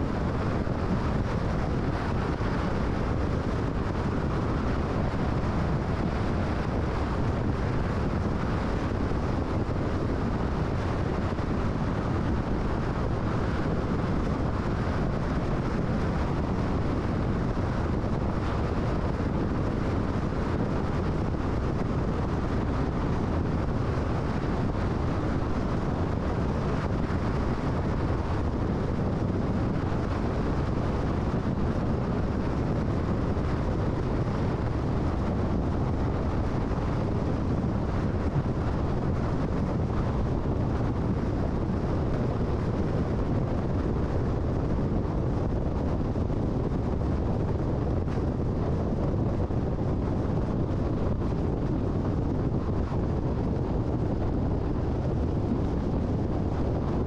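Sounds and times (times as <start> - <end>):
car road noise: 0.0 - 57.0.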